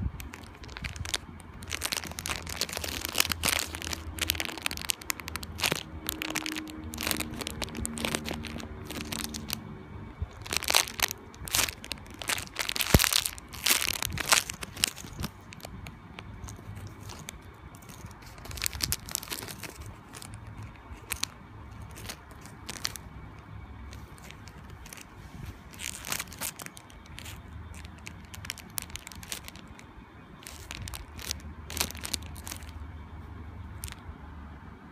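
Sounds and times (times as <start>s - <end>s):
plastic packaging crinkling: 0.0s - 9.6s, 10.2s - 32.8s, 33.8s - 34.0s.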